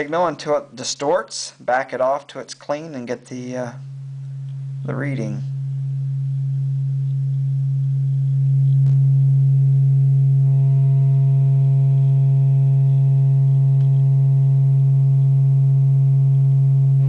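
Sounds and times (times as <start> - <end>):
low sine-wave test tone: 0.0 - 17.0.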